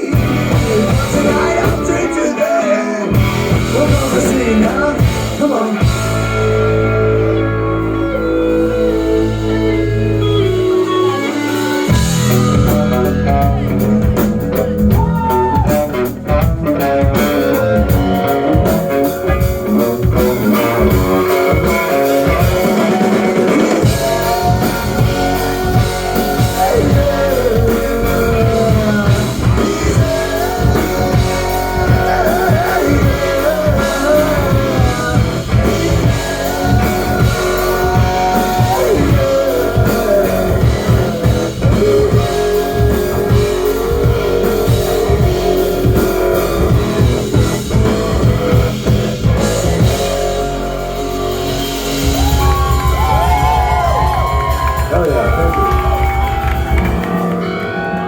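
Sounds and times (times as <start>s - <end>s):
electric guitar lead lines: 0.0s - 58.0s
rock band playing: 0.0s - 58.0s.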